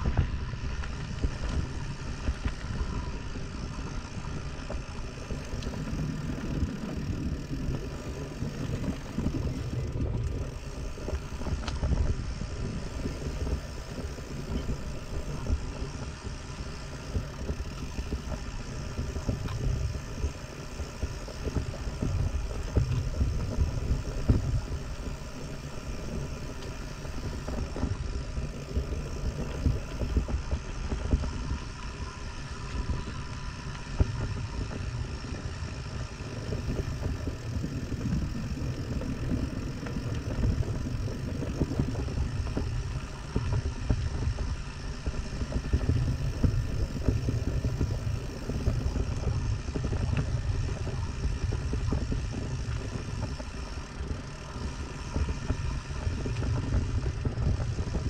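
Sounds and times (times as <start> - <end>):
bike rattling over ground: 0.0 - 58.0
wind rumble on microphone: 0.0 - 58.0.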